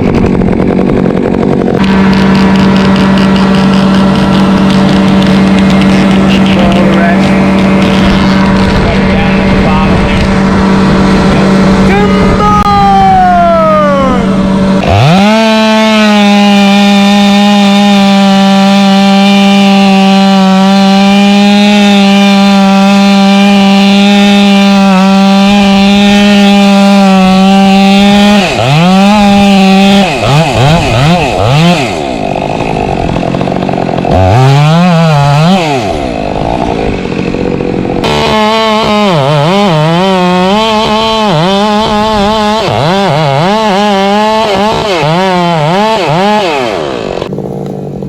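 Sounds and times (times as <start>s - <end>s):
chainsaw engine revving: 0.0s - 48.0s.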